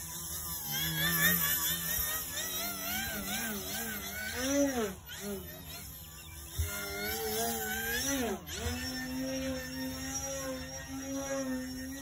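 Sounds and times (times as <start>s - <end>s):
electric motor and propeller whining: 0.0s - 12.0s.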